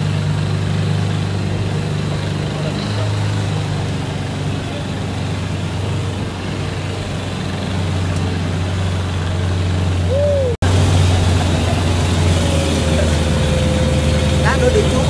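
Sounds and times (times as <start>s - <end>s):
vehicle engine low drone: 0.0s - 15.0s.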